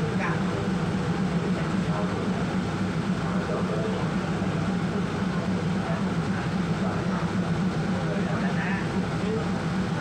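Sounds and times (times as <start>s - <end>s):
diesel train engine humming: 0.0s - 10.0s.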